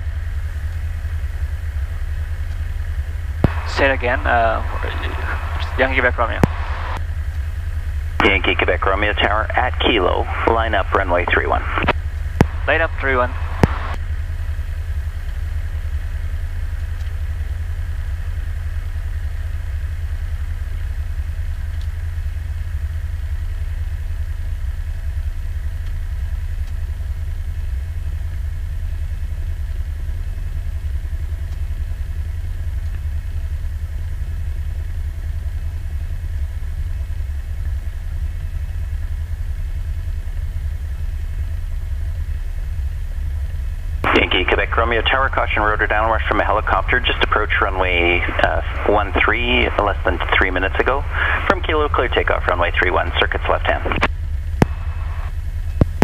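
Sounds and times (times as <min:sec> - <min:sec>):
airplane piston engine idling: 0:00.0 - 0:56.0.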